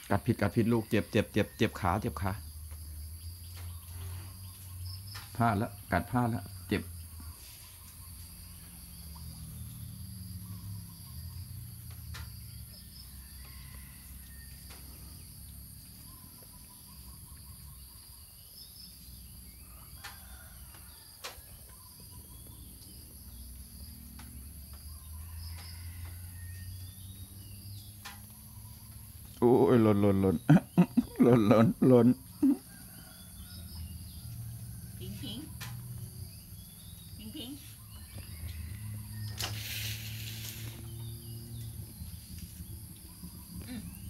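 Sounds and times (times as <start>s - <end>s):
faint bird chirps: 0.1s - 23.6s, 24.9s - 44.0s.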